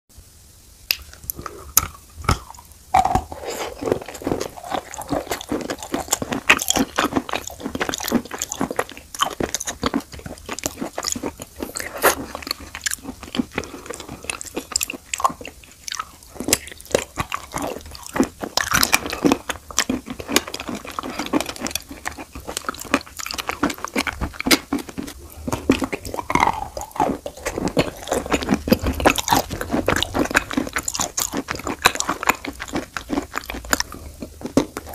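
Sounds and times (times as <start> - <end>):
crunching and chewing chalk: 0.9 - 34.9.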